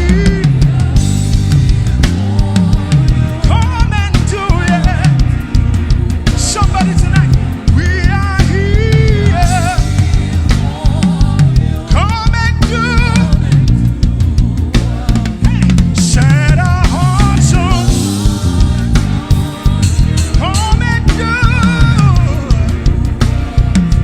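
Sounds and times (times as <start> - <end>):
person singing with vibrato: 0.0 - 5.5, 6.3 - 24.0
gospel band playing: 0.0 - 24.0.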